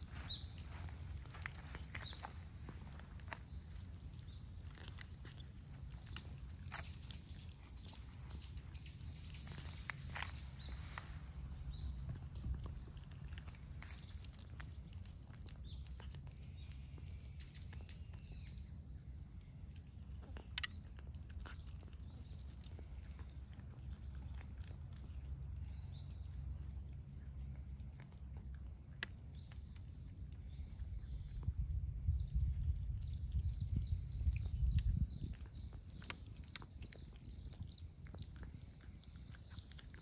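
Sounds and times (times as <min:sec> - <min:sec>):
cat chewing food: 0:00.0 - 0:40.0
low outdoor rumble: 0:00.0 - 0:40.0.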